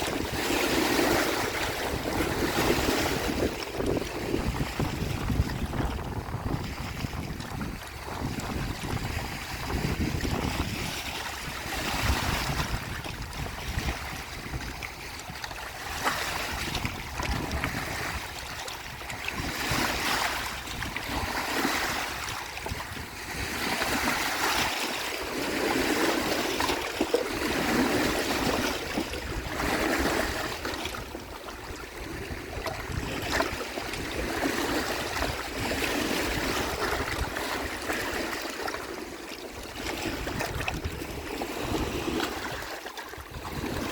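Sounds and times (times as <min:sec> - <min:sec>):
waves washing onto shore: 0:00.0 - 0:43.9
wind rumbling on microphone: 0:00.0 - 0:43.9.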